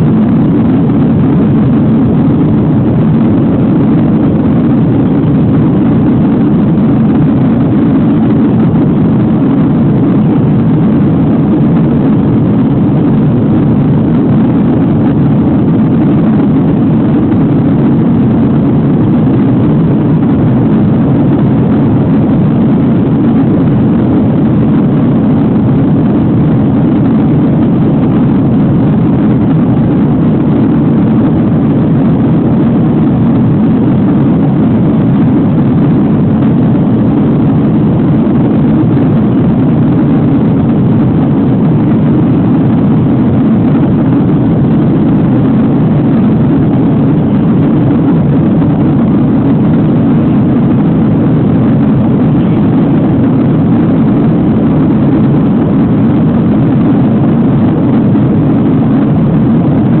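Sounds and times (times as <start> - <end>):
airliner cabin engine rumble: 0.0 - 60.0.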